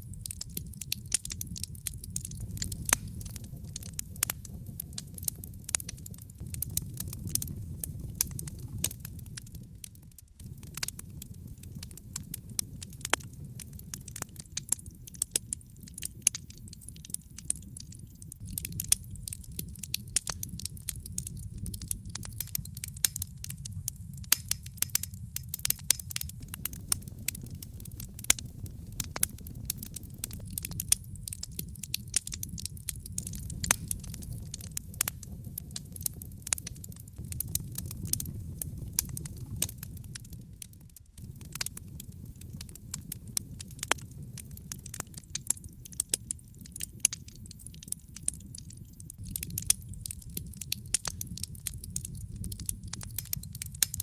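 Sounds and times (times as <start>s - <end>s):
fire crackling and popping: 0.0s - 54.0s
fire rumbling: 0.0s - 54.0s.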